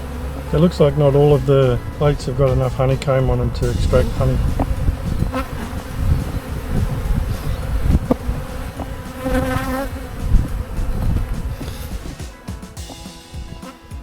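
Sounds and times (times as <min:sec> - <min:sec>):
bee passing close: 0:00.0 - 0:14.0
bees buzzing: 0:00.0 - 0:14.0.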